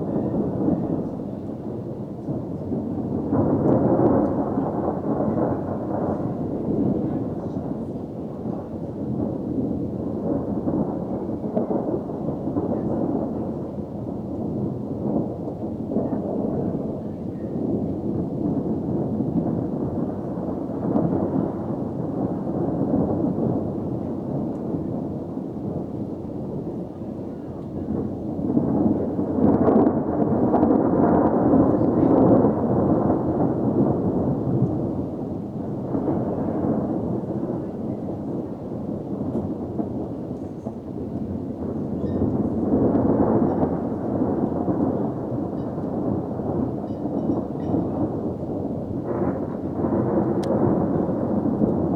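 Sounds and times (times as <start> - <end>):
thunder rolling: 0.0 - 51.9.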